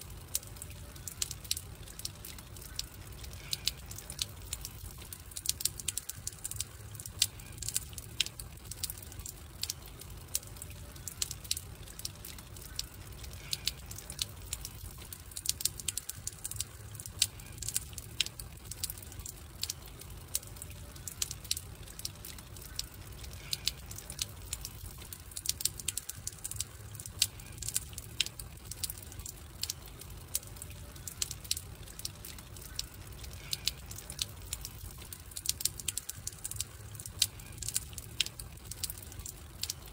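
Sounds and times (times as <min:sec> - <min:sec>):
campfire crackling and popping: 0:00.0 - 0:39.9
low rumble of burning fire: 0:00.0 - 0:39.9.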